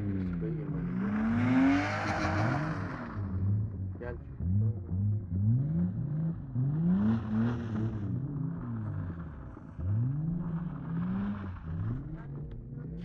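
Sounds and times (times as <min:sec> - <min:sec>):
car engine revving hard: 0:00.7 - 0:12.3.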